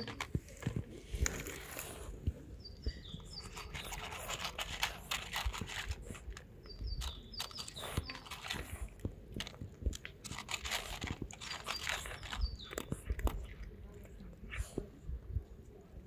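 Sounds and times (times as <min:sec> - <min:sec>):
cats crunching dry food: 0:00.0 - 0:02.2, 0:03.0 - 0:14.2.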